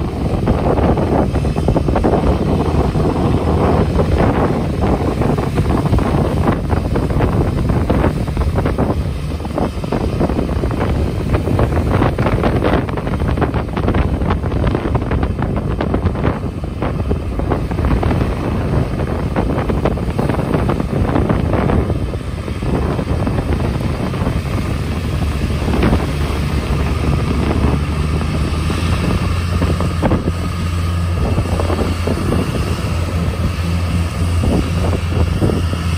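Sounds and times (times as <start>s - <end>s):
diesel engine hum: 0.0s - 35.9s
waves breaking: 0.0s - 35.9s
wind buffeting microphone: 0.0s - 35.9s.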